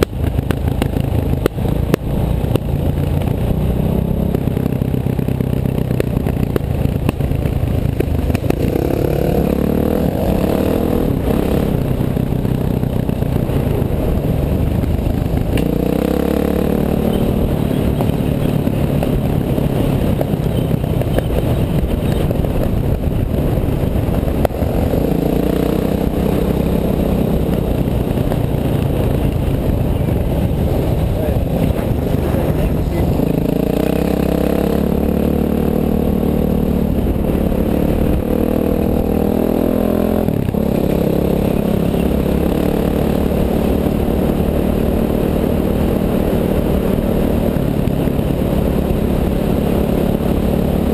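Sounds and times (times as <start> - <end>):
engine revving: 0.0 - 50.9.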